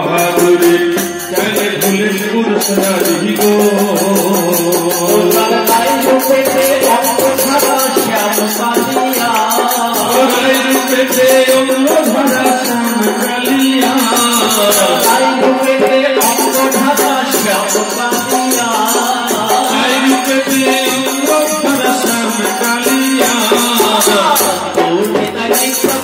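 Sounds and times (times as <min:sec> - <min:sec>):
jingling hand percussion: 0:00.0 - 0:26.0
men singing a chant: 0:00.0 - 0:26.0.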